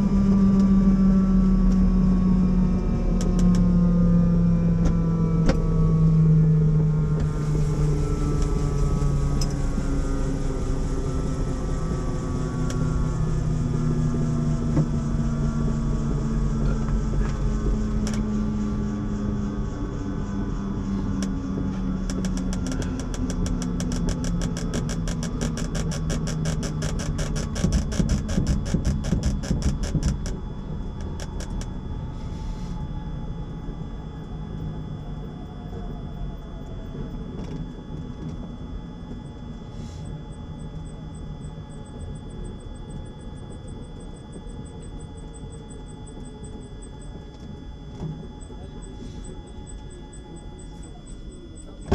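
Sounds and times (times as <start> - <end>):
helicopter rotor beat: 0.0 - 32.1, 33.0 - 51.9
helicopter engine hum: 0.0 - 51.9.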